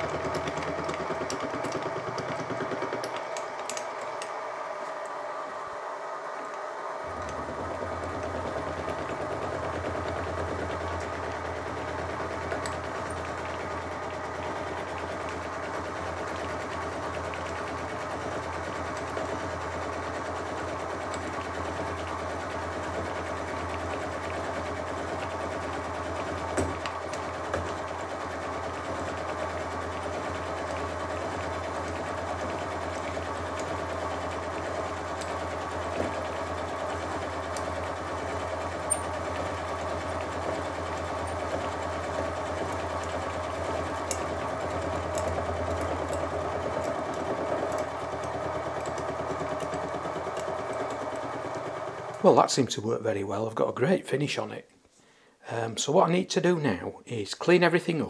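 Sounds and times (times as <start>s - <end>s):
milling machine cutting metal: 0.0s - 52.5s.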